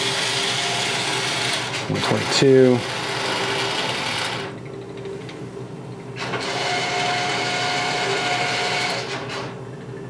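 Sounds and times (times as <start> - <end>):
vending machine motor whine: 0.0 - 10.0.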